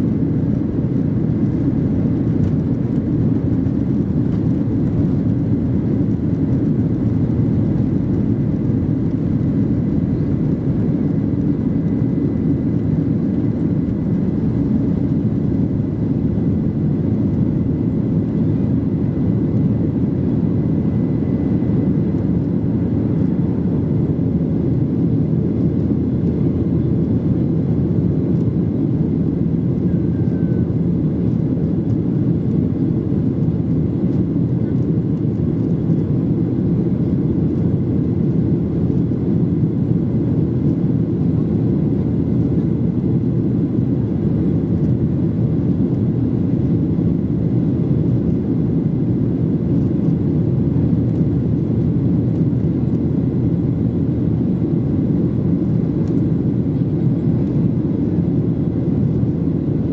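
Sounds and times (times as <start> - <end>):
jet engine cabin rumble: 0.0 - 59.9.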